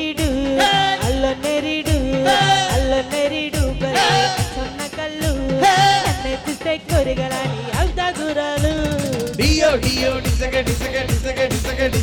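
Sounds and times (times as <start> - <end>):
keyboards: 0.0 - 12.0
person singing: 0.0 - 12.0.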